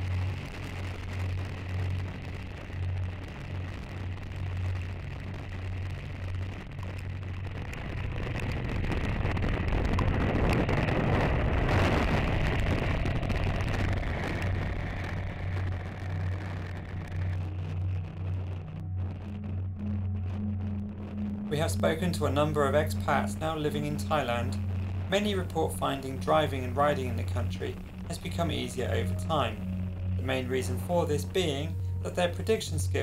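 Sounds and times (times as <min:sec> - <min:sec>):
motorcycle engine hum: 0:00.0 - 0:32.6.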